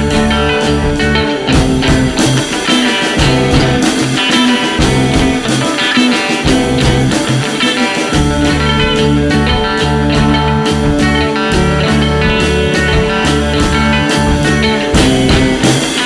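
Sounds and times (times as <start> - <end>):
bass guitar: 0.0 - 16.0
drum beat: 0.0 - 16.0
rock music: 0.0 - 16.0.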